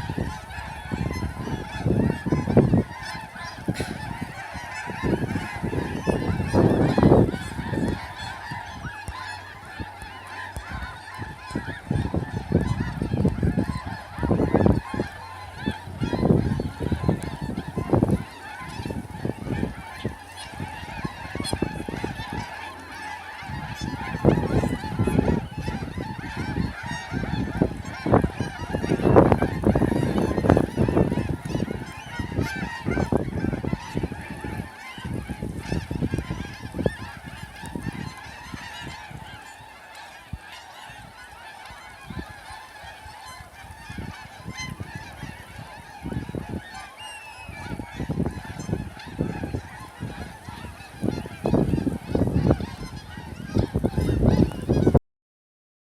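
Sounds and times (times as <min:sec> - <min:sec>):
wind buffeting the microphone: 0:00.0 - 0:55.0.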